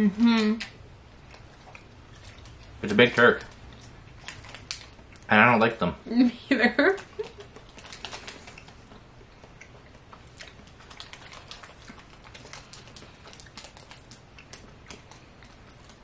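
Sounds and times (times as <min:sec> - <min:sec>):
chewing clicks and smacks: 0:00.4 - 0:05.3, 0:07.0 - 0:16.0.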